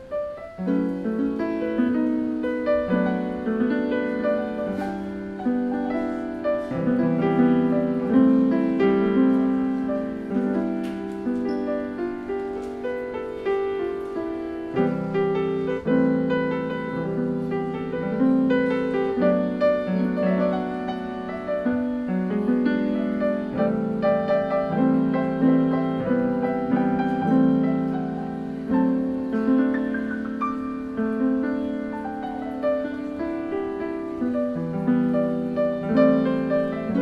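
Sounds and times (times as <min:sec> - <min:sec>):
grand piano playing: 0:00.0 - 0:37.0.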